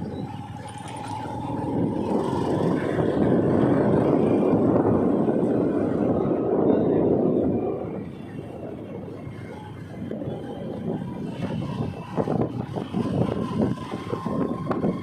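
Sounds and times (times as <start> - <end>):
motorbike road and wind noise: 0.0 - 15.0.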